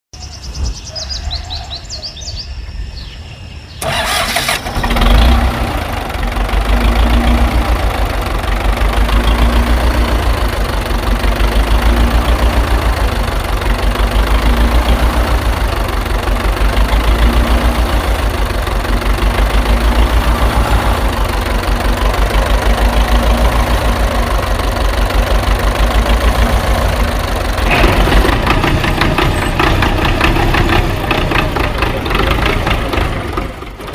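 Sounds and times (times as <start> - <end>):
engine starting and running: 3.8 - 33.9.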